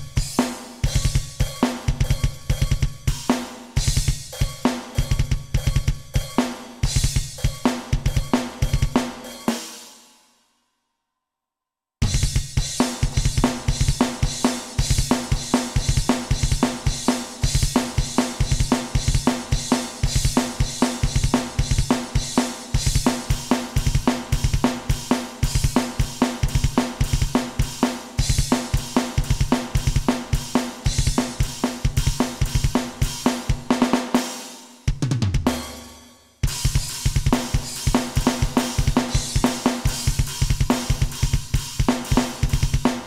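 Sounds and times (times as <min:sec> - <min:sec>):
electronic drum kit metal groove: 0:00.0 - 0:10.0, 0:12.0 - 0:43.0.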